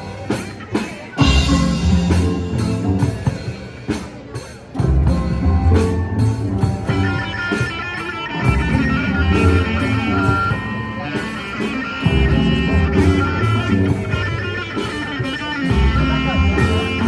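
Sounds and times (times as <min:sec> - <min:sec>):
steel band playing: 0:00.0 - 0:17.0.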